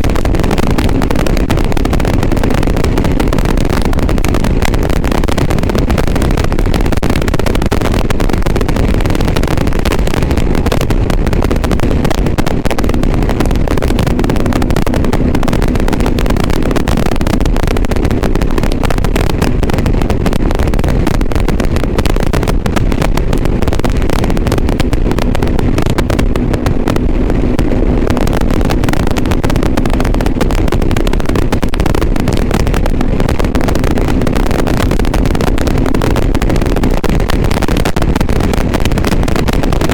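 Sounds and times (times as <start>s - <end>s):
faint motorcycle engine hum: 0.0s - 38.0s
distorted wind rush with crackling: 0.0s - 39.9s.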